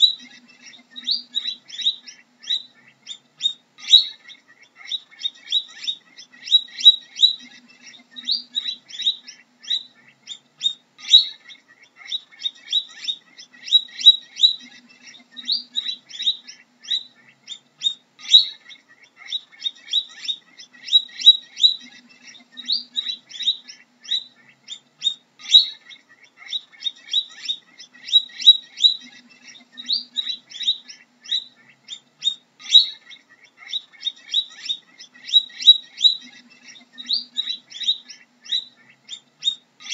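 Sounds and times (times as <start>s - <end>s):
guinea pig squeaking: 0.0s - 39.9s.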